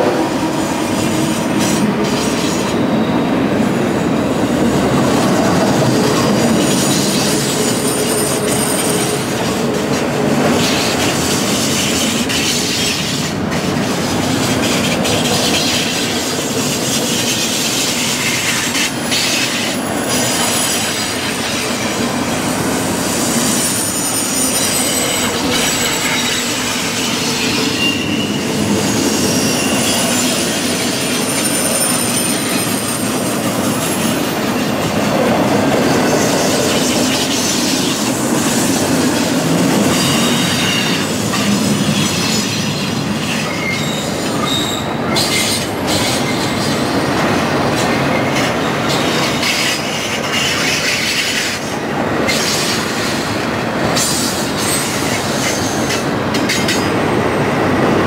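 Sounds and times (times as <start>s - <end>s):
clickety-clack of wheels: 0.0s - 3.2s, 4.3s - 57.7s
train wheels rumbling on rail: 0.0s - 58.0s
high wheel squeals: 5.2s - 9.6s, 10.5s - 38.6s, 39.6s - 56.0s.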